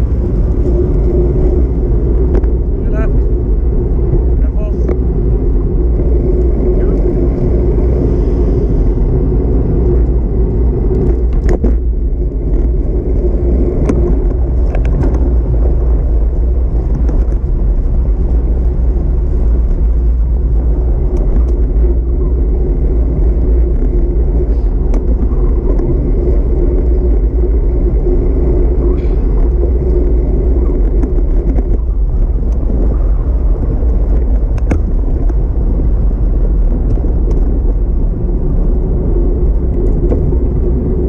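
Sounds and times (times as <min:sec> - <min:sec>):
bicycle tyres on asphalt: 0:00.0 - 0:41.0
wind rumble on microphone: 0:00.0 - 0:41.0.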